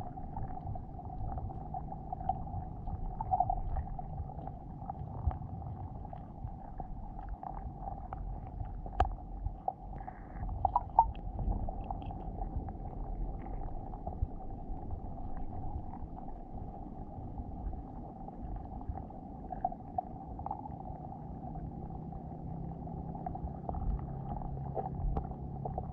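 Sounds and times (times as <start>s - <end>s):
muffled underwater rumble: 0.0s - 25.9s
steady hum: 0.0s - 25.9s.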